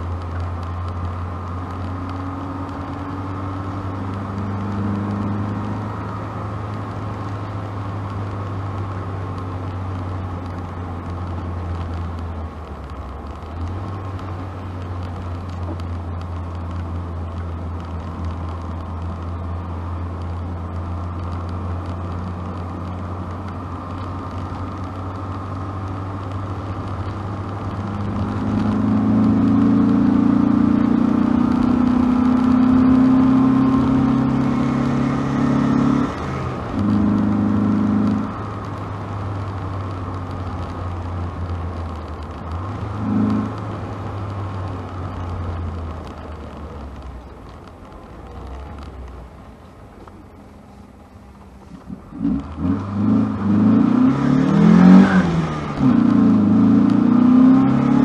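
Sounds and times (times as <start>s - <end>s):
car engine and exhaust cruising: 0.0s - 58.0s
road noise: 0.0s - 58.0s.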